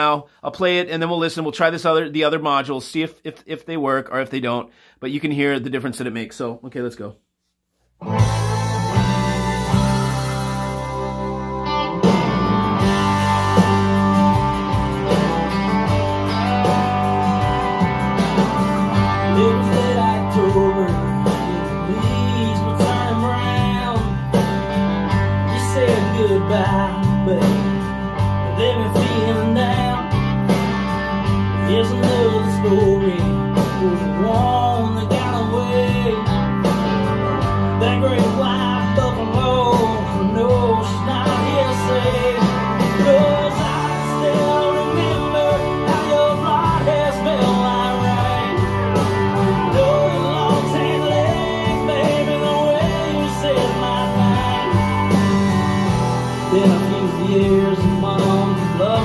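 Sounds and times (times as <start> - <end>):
song with singing and plucked guitar: 8.0 - 59.0
steady bass notes: 8.0 - 59.0.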